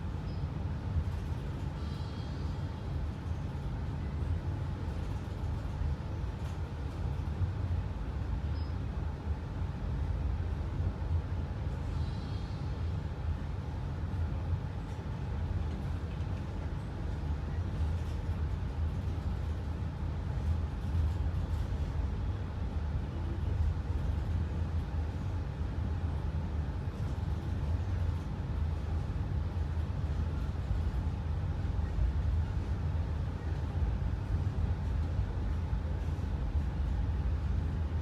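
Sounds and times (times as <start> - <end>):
train rumbling on track: 0.0 - 38.0.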